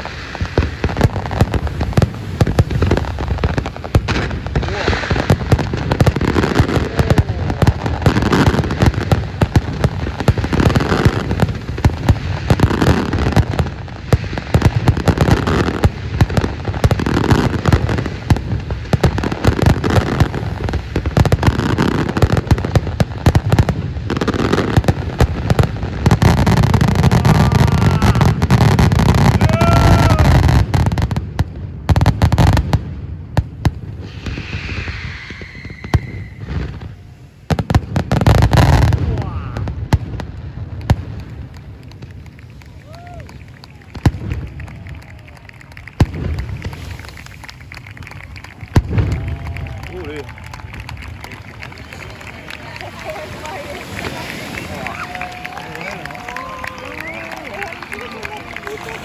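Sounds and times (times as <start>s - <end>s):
fireworks bursts and crackling bangs: 0.0s - 59.0s.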